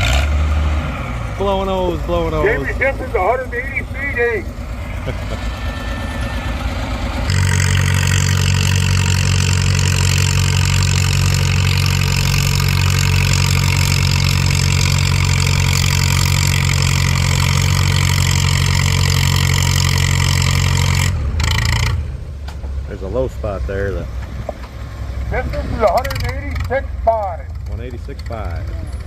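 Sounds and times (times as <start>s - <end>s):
tractor engine running under load: 0.0s - 29.0s.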